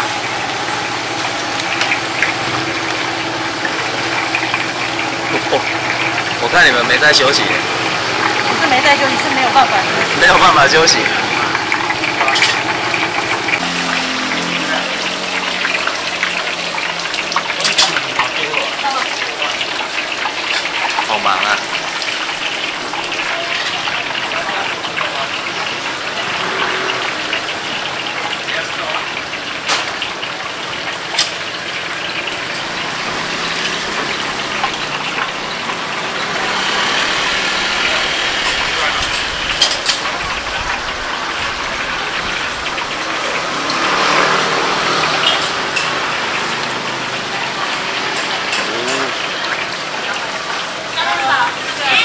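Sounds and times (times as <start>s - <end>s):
hot oil sizzling and crackling: 0.0s - 52.0s.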